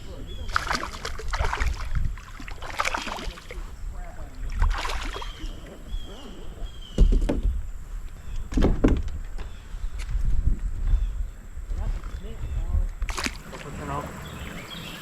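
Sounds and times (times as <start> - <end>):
low rumble of water and wind: 0.0 - 15.0.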